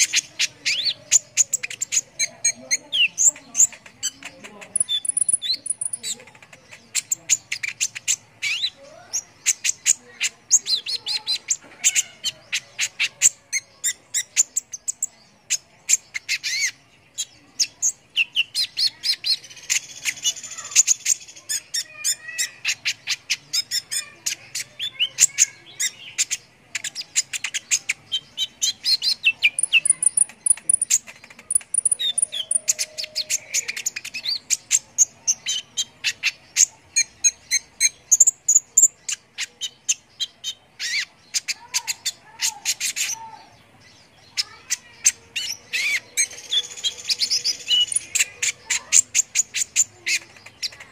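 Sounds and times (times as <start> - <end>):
sunbird singing sharp chirps: 0.0 - 43.5, 44.1 - 50.8.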